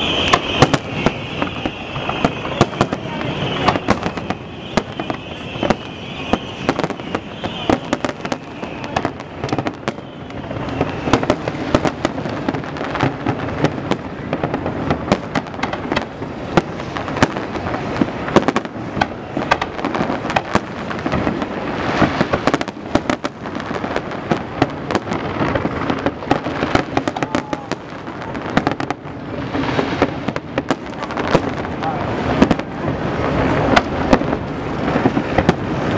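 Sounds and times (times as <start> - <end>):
fireworks bangs: 0.0 - 35.9
fireworks crackle: 0.0 - 35.9.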